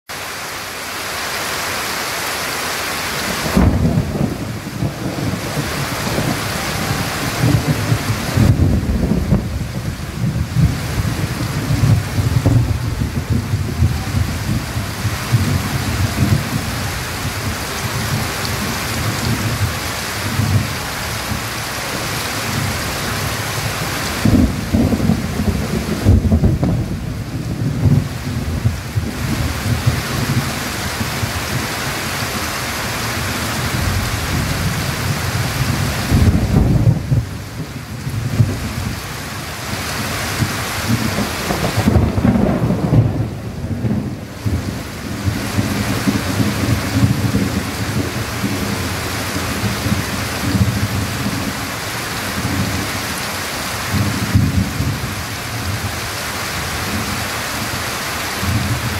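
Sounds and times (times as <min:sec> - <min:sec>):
heavy rain on leaves: 0:00.1 - 0:58.9
thunder rumbling: 0:03.3 - 0:58.9.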